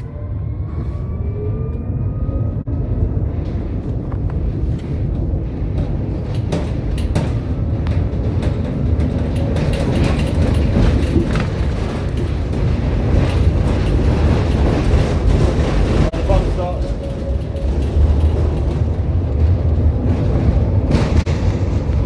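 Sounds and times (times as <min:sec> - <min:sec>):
tram rumbling on rails: 0:00.0 - 0:22.0
wheels clicking over track: 0:04.2 - 0:22.0.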